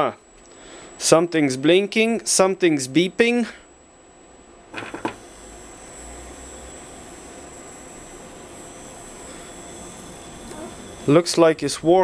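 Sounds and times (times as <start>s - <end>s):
motor hiss with high whine: 0.0s - 12.0s.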